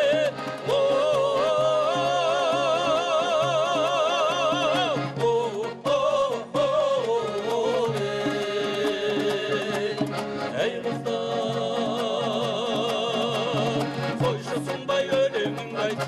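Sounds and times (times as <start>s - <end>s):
folk instrumental accompaniment: 0.0s - 16.0s
voice singing with vibrato: 0.0s - 16.0s.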